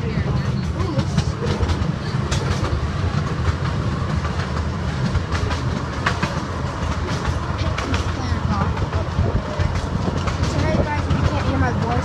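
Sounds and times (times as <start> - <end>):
train car rumbling on track: 0.0 - 12.0
wheels clicking and clacking: 0.0 - 12.0.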